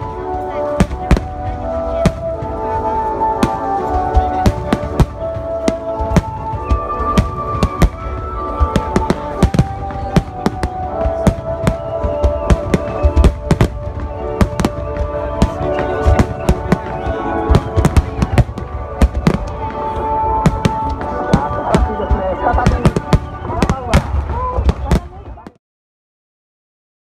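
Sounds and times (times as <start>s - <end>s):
music with held notes: 0.0s - 25.3s
fireworks bursting: 0.0s - 25.5s.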